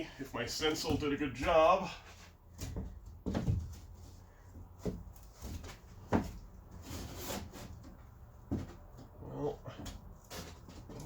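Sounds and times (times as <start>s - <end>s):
plywood knocking and scraping: 0.6s - 11.0s.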